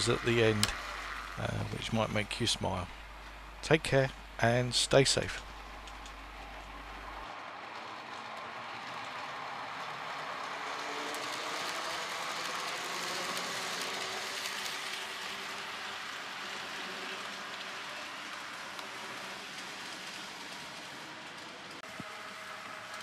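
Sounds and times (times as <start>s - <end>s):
model train motor hum: 0.0s - 23.0s
model train wheels rumbling: 0.0s - 23.0s.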